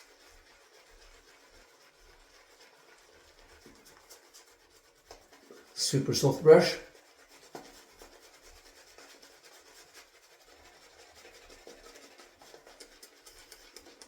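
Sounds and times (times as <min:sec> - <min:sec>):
shaving brush whipping lather: 0:00.0 - 0:14.0.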